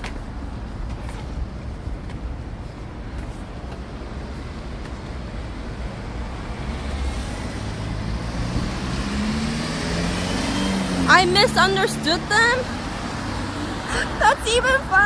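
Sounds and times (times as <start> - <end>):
road vehicle low rumble: 0.0 - 15.0.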